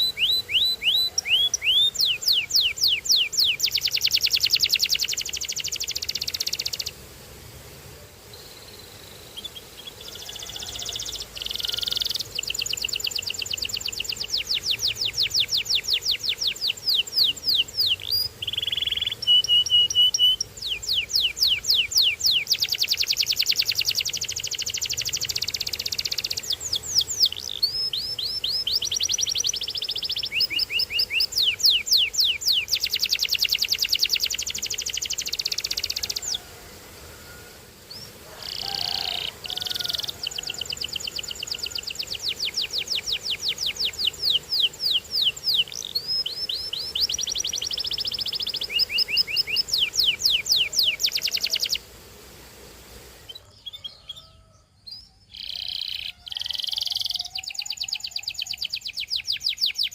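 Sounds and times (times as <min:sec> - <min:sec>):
canary singing trills: 0:00.0 - 0:07.0, 0:08.4 - 0:36.5, 0:37.9 - 0:51.9, 0:53.2 - 0:59.9.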